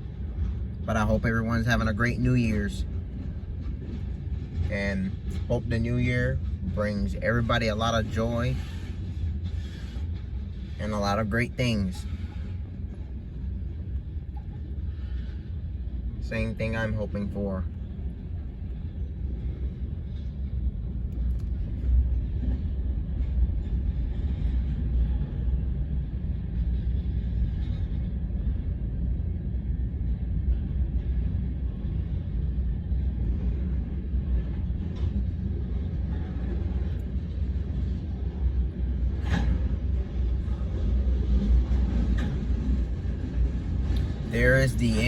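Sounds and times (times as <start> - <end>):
freight train cars rolling: 0.0 - 45.0.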